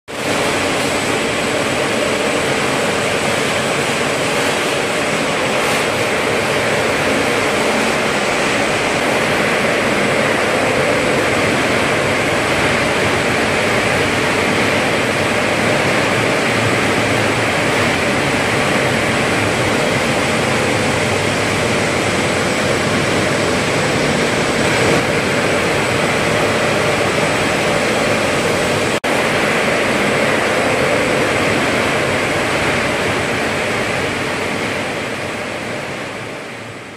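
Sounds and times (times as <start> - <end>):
spinning machinery rushing noise: 0.1 - 36.9.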